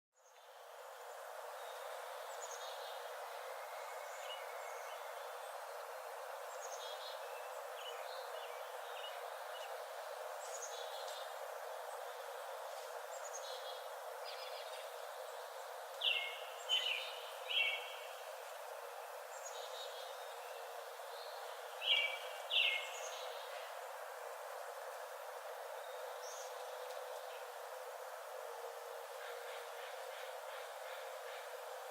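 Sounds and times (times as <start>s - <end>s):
forest birds chirping: 0.2s - 31.9s
steady background hiss: 0.2s - 31.9s.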